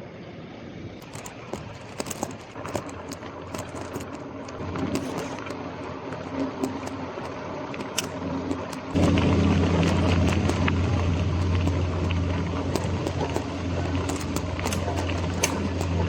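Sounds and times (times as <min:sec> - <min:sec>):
bike tyre noise: 0:00.9 - 0:16.0
vehicle engine hum: 0:00.9 - 0:16.0
bike rattling clicks: 0:01.0 - 0:16.0.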